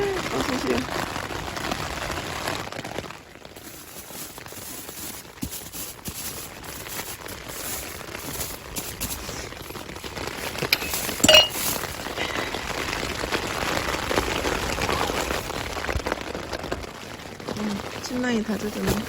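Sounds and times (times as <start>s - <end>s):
heavy rain on a tent: 0.0s - 19.0s
wind: 0.0s - 19.0s.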